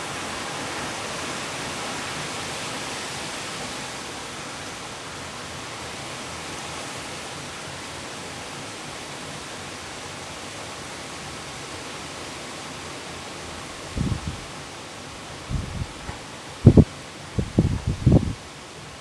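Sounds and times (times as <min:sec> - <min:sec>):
wind rushing through trees: 0:00.0 - 0:19.0.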